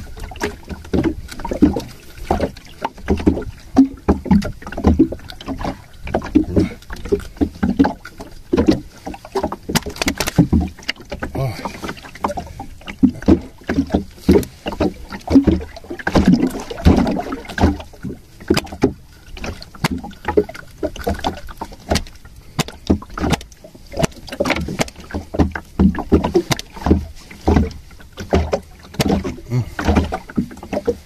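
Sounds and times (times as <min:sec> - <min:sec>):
knocks and splashes: 0:00.0 - 0:31.0
water slapping against boat hull: 0:00.0 - 0:31.0.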